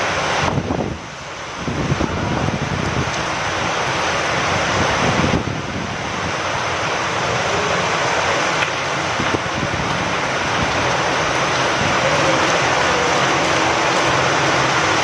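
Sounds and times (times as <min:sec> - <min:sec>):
rain hissing: 0:00.0 - 0:15.0
raindrops ticking on surfaces: 0:00.0 - 0:15.0.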